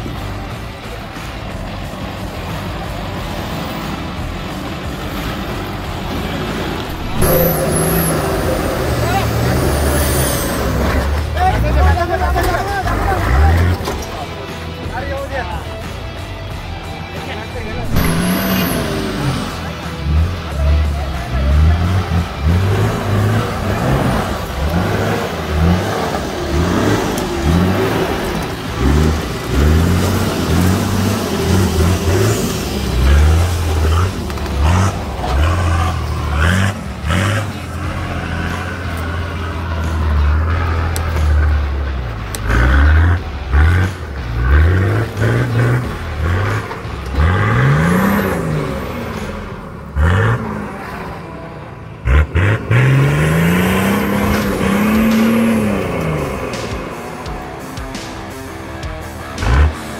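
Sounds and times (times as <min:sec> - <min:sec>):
engine revving in bursts: 0:02.2 - 0:14.6, 0:17.6 - 0:59.9.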